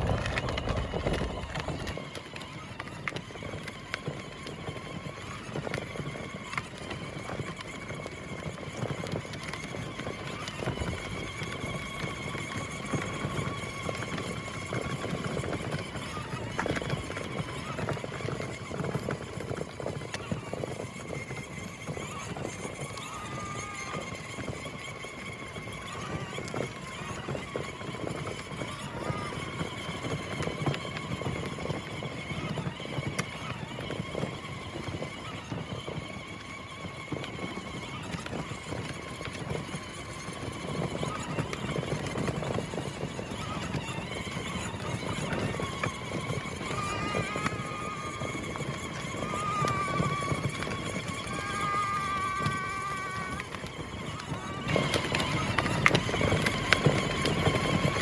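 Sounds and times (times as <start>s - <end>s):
plastic wheels rattling and crunching: 0.0s - 58.0s
ride-on toy truck driving: 0.0s - 58.0s.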